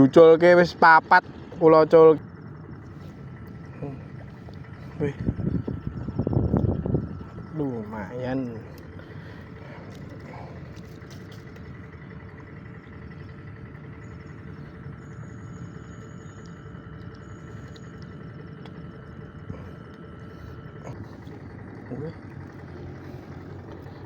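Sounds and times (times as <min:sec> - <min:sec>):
distant engine rumble: 0:00.0 - 0:24.0
faint high steady tones: 0:00.0 - 0:24.0.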